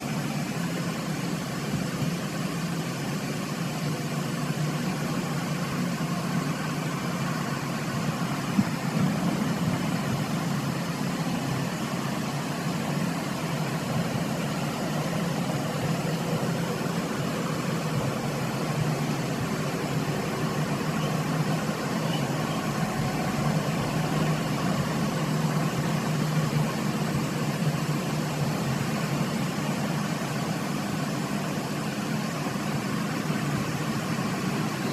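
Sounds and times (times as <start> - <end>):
low mechanical hum: 0.0 - 34.9.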